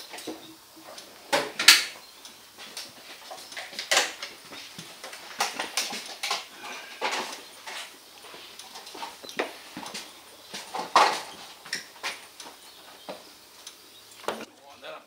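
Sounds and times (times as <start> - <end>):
knocks and clicks of handling tools: 0.0 - 7.9, 8.6 - 14.5.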